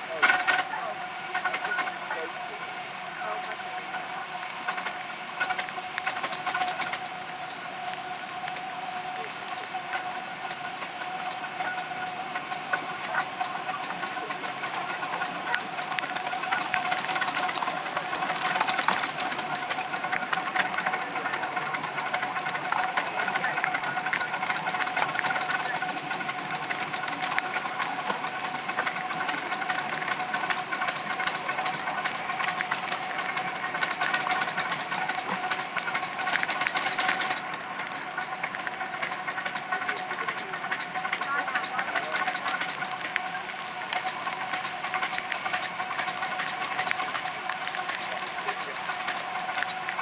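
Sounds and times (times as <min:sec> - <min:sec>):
rapid clicks: 0:00.0 - 0:50.0
steam hissing: 0:00.0 - 0:50.0.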